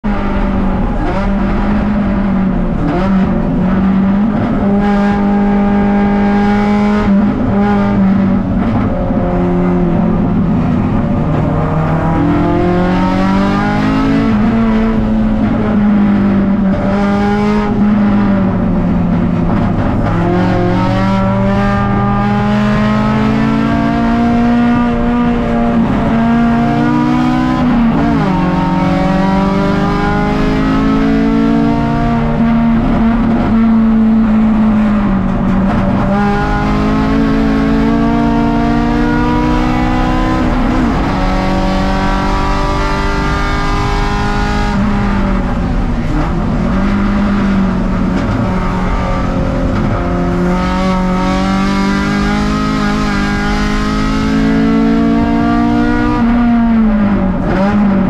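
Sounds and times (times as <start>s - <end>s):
race car engine revving: 0.0s - 58.0s
road noise: 0.0s - 58.0s.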